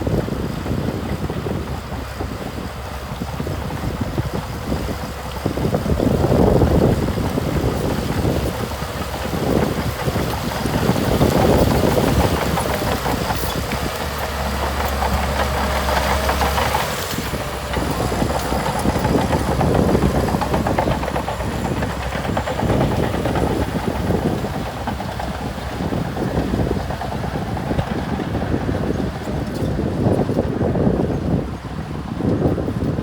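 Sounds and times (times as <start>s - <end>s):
heavy diesel engine rumbling: 0.0s - 33.0s.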